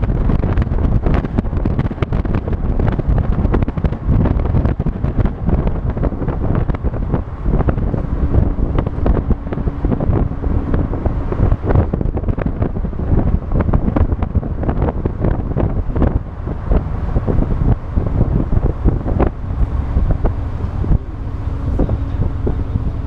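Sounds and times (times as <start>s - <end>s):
vehicle rumble: 0.0s - 23.0s
wind buffeting microphone: 0.0s - 23.0s.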